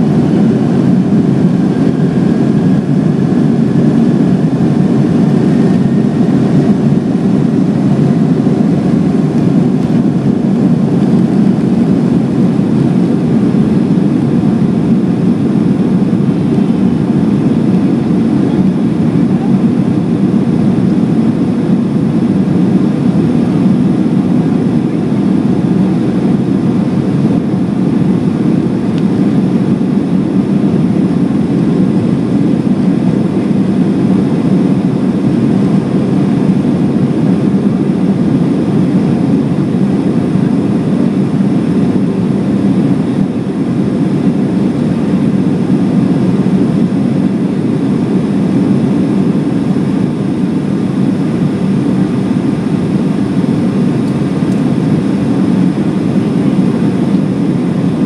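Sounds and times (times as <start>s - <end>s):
faint whine: 0.0s - 58.0s
jet engines at takeoff thrust: 0.0s - 58.0s.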